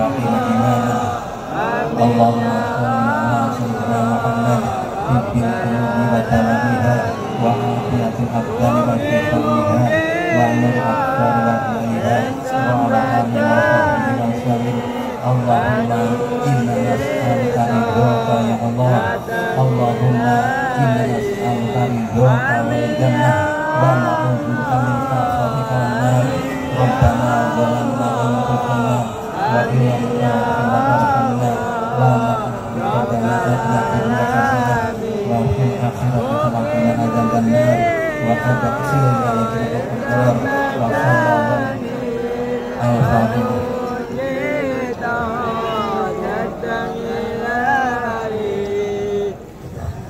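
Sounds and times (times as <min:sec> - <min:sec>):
person singing devotional melody: 0:00.0 - 0:50.0
voices chanting over a pa: 0:00.0 - 0:50.0.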